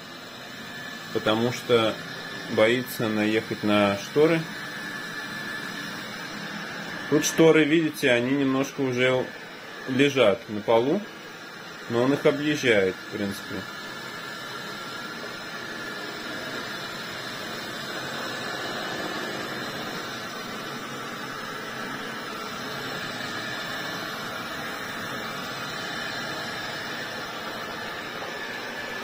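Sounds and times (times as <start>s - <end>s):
robot vacuum whirring hiss: 0.6s - 29.0s.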